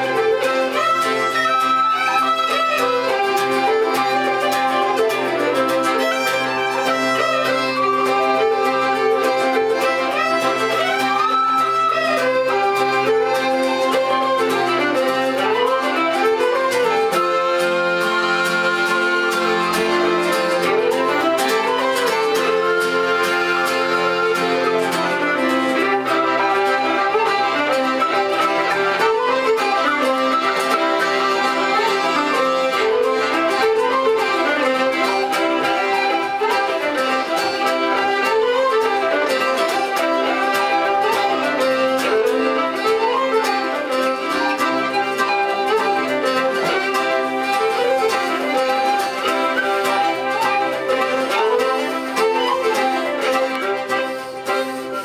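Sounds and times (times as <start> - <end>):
fiddles: 0.0 - 55.0
piano accordion: 0.0 - 55.0
strummed acoustic guitar: 0.0 - 55.0
tin whistles: 0.1 - 55.0.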